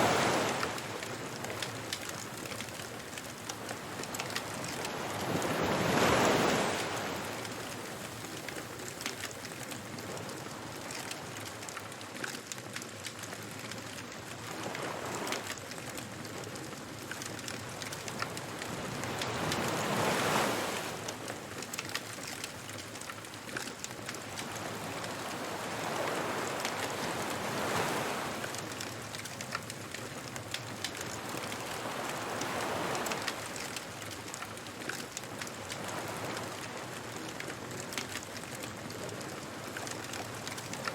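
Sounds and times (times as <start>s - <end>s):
ocean waves washing in: 0.0s - 9.0s, 14.2s - 40.9s
bonfire crackling: 0.1s - 13.3s, 13.9s - 40.9s.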